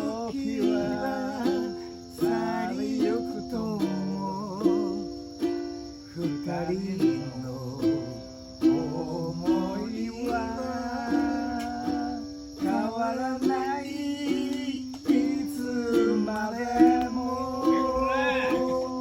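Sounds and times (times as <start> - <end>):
ukulele plucked notes and chords: 0.0 - 19.0.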